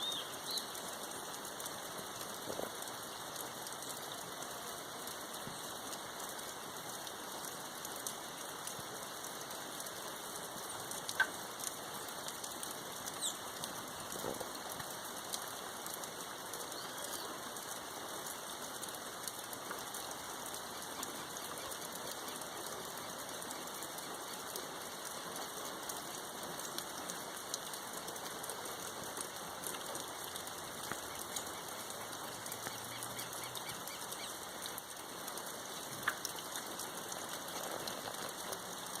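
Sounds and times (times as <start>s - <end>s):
raindrops tapping: 0.0s - 39.0s
steady rain falling: 0.0s - 39.0s.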